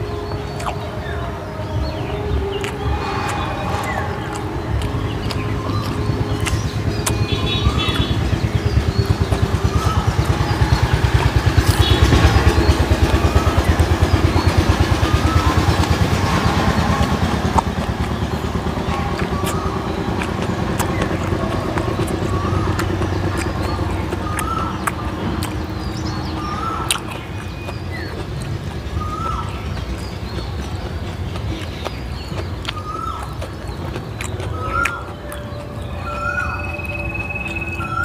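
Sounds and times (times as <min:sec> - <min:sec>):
vehicle engine throbbing: 0:00.0 - 0:38.0.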